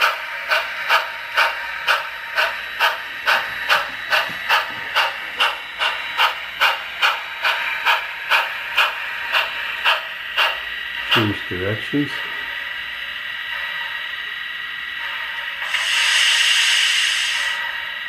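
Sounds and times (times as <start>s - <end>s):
model locomotive steam chuffs: 0.0s - 18.0s.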